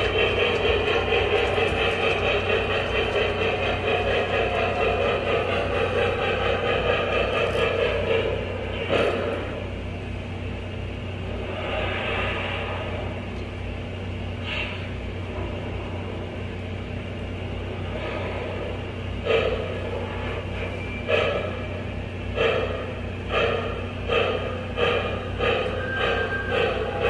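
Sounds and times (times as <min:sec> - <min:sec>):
model locomotive steam chuffs: 0:00.0 - 0:27.0.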